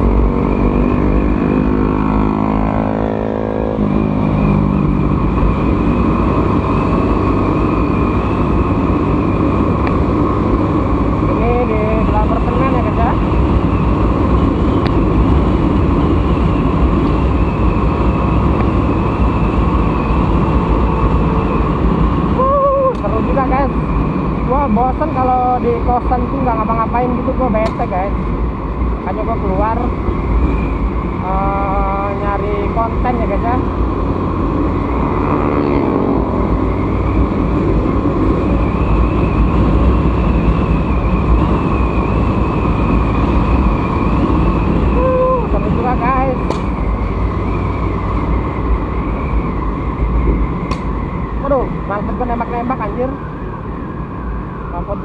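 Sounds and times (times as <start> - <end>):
motorcycle engine running: 0.0 - 53.6
wind and road noise: 0.0 - 55.0.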